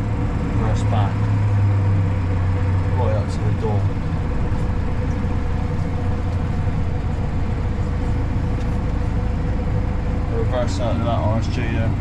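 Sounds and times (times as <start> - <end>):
tractor engine low drone: 0.0 - 12.0.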